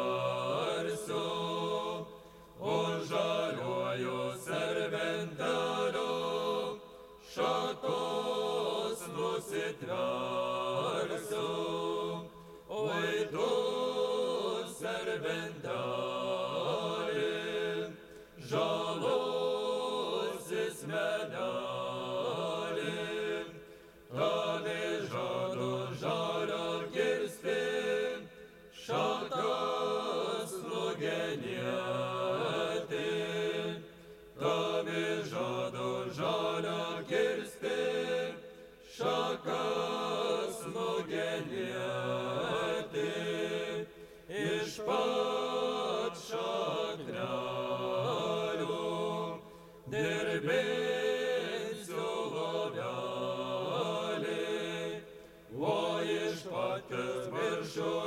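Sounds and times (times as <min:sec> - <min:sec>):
folk ensemble singing: 0:00.0 - 0:58.0.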